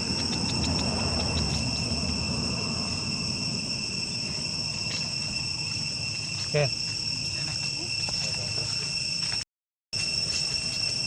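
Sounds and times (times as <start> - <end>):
insects shrilling: 0.0 - 9.4, 10.0 - 11.0.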